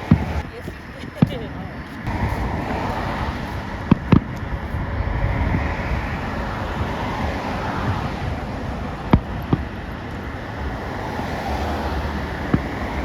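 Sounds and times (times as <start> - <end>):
steady rumbling background: 0.0 - 13.0.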